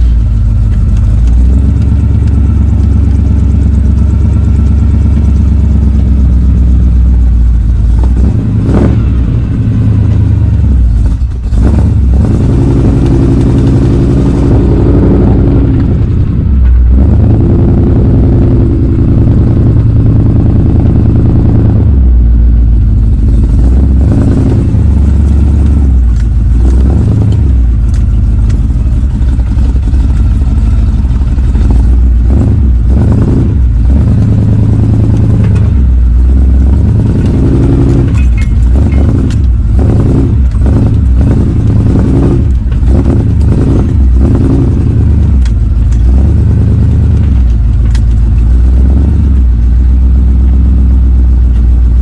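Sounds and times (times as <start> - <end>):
engine idling while warming up: 0.0 - 17.3, 17.9 - 52.0.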